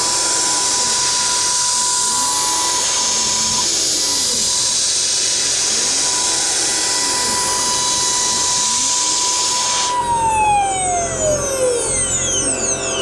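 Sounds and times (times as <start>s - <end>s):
router spindle whine: 0.0s - 13.0s.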